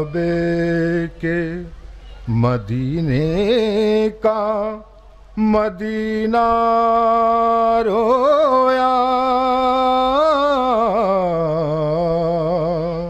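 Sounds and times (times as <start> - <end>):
man chanting solo: 0.0 - 13.0.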